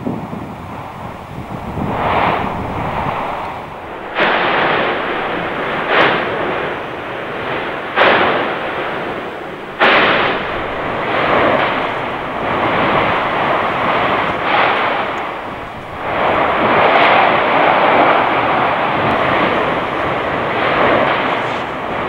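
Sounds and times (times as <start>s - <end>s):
rushing noise of eruption: 0.0s - 22.0s
volcanic eruption blasts: 0.0s - 22.0s.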